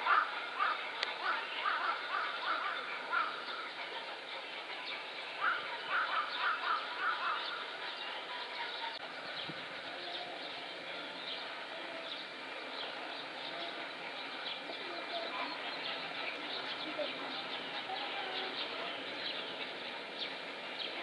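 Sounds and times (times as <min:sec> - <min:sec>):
small birds chirping: 0:00.0 - 0:21.0
steady background hiss: 0:00.0 - 0:21.0.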